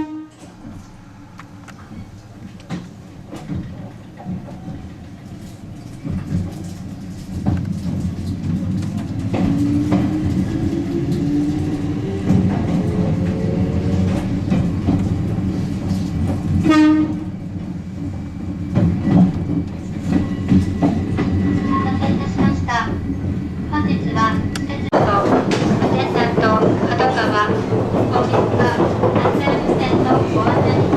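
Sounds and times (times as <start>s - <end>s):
train rumble: 0.0s - 30.9s
rail-joint clicks: 0.3s - 17.8s, 18.5s - 23.1s, 24.0s - 30.9s.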